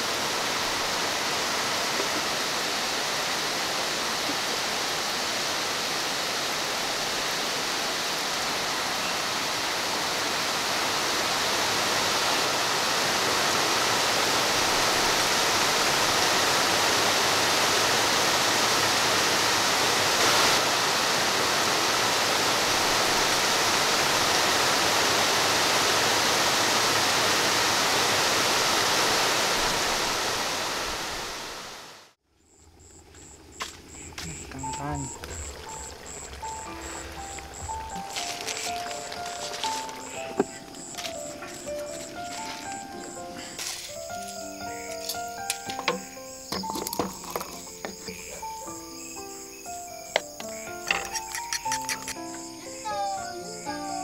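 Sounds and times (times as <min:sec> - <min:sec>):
steady rain falling: 0:00.0 - 0:32.2, 0:33.1 - 0:48.8.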